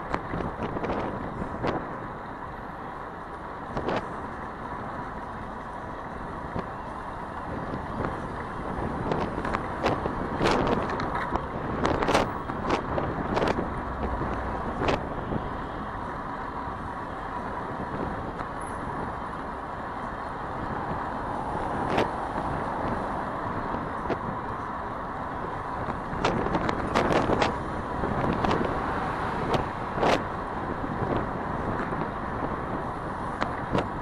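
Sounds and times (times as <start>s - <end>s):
cars passing: 0.0s - 34.0s
wind and road noise: 0.0s - 34.0s.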